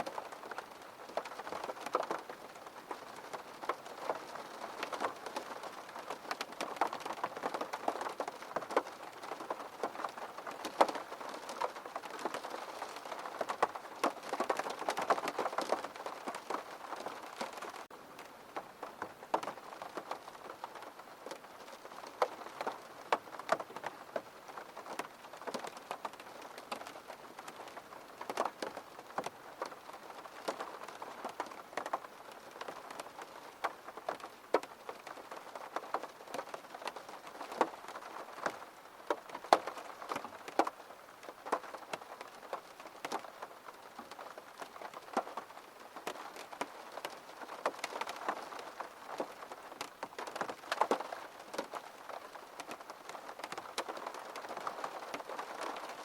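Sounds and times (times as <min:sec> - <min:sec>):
raindrops tapping: 0:00.0 - 0:56.0
steady rain: 0:00.0 - 0:56.0.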